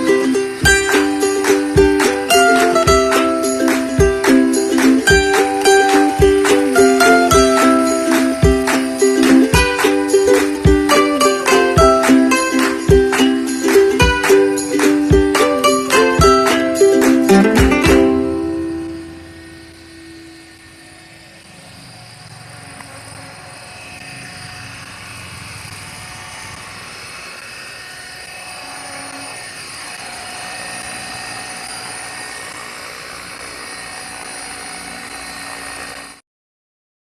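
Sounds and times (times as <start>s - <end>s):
motor and gears whining: 0.0s - 36.2s
rotor buzzing: 0.0s - 36.2s.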